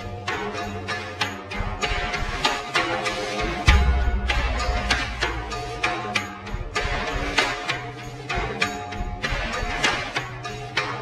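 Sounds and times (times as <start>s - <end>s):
music with percussive beat: 0.0s - 11.0s.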